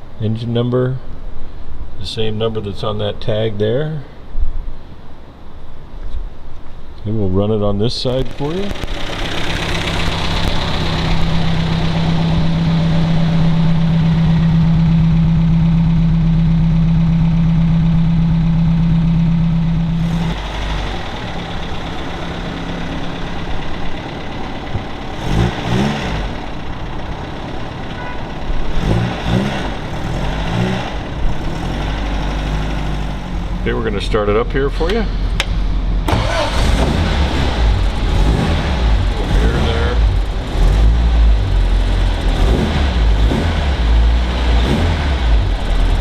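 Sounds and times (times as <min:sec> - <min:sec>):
car engine running: 0:08.1 - 0:46.0.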